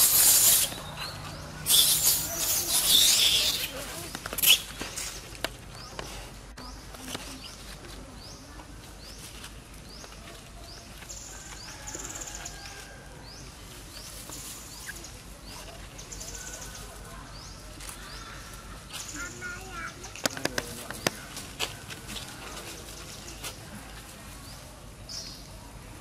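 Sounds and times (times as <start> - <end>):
birds chirping: 0.0 - 25.6.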